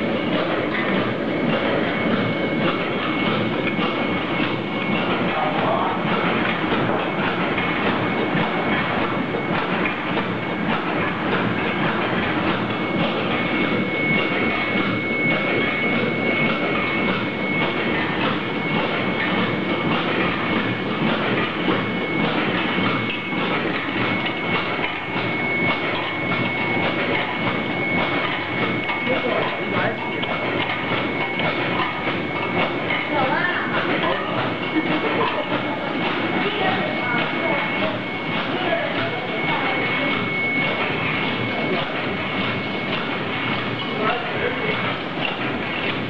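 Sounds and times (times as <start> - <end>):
machine mechanical clatter: 0.0 - 46.0.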